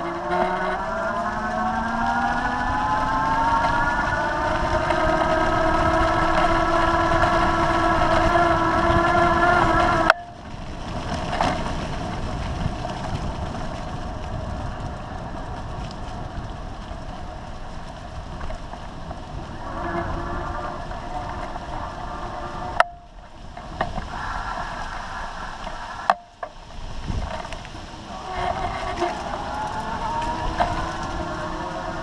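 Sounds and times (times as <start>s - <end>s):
electric bicycle motor whining: 0.0s - 32.0s
tyres rolling over dry leaves: 0.0s - 32.0s
wind noise: 0.0s - 32.0s.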